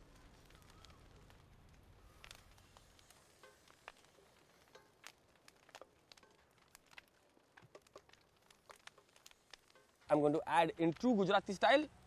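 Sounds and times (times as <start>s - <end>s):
faint crackling and ticking of pot: 0.0s - 12.0s.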